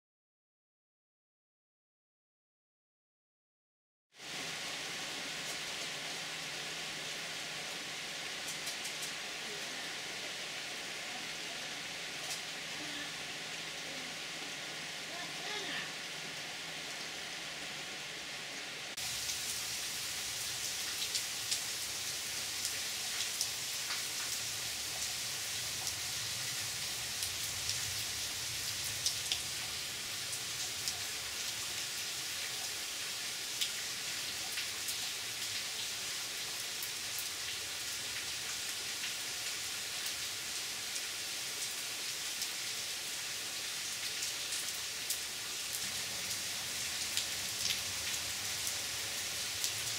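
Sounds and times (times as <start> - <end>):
rain falling into water: 4.2 - 49.9.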